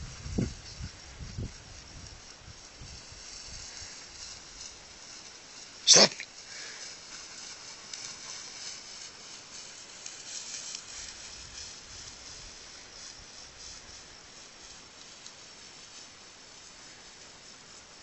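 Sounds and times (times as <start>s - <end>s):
dry grass rustling: 0.0s - 18.0s.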